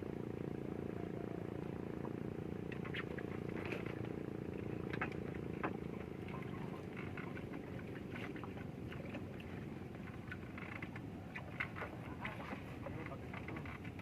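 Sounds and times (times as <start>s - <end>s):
small engine humming: 0.0s - 14.0s.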